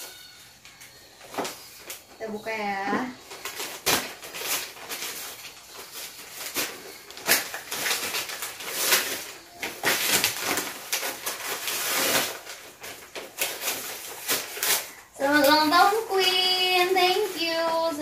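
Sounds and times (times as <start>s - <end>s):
wrapping paper tearing and crumpling: 0.0s - 18.0s.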